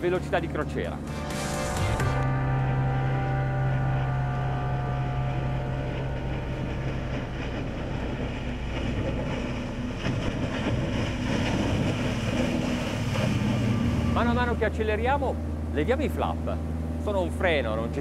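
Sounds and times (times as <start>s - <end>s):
bow spray and wake splashing: 0.0s - 18.0s
motorboat engine drone: 0.0s - 18.0s.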